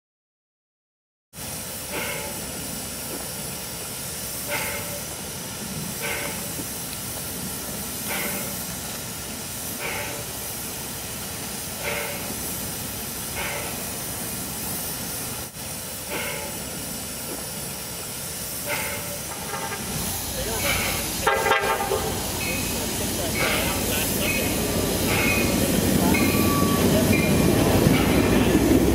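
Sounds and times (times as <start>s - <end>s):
steam hissing: 1.4s - 28.9s
steam locomotive puffs: 1.4s - 28.9s.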